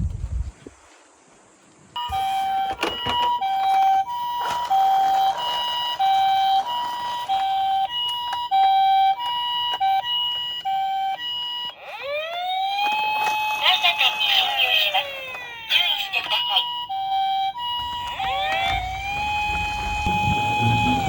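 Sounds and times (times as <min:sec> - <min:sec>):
toy ambulance siren two-tone: 0:02.0 - 0:21.0.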